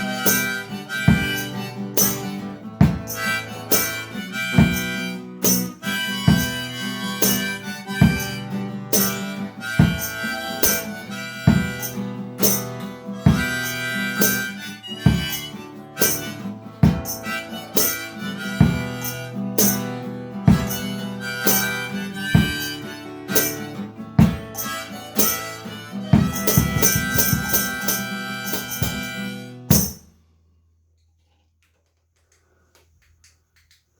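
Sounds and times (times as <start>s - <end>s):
harmonica playing: 0.0s - 30.0s
strummed guitar: 0.0s - 30.3s.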